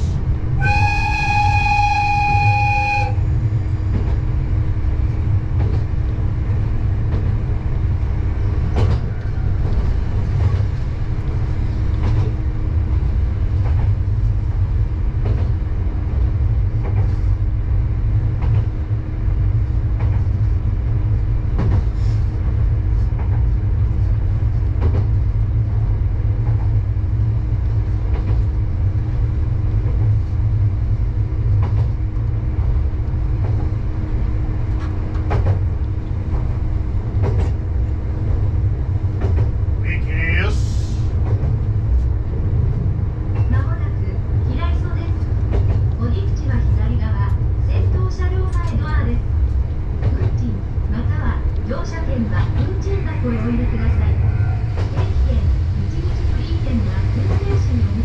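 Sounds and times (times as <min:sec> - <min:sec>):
railcar engine rumble: 0:00.0 - 0:58.0.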